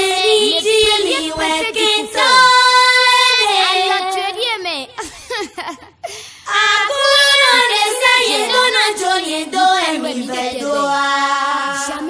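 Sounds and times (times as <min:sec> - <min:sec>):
high voices singing: 0:00.0 - 0:04.4, 0:06.4 - 0:12.0.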